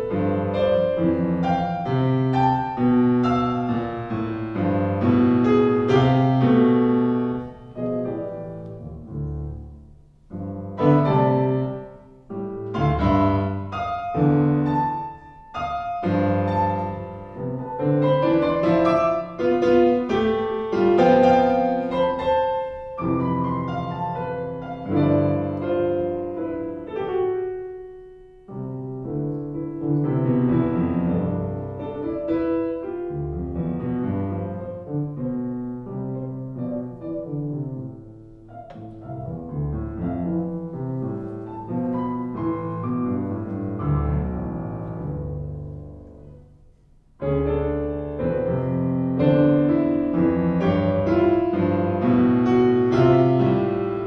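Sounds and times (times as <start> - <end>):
classical piano playing: 0.0 - 54.0.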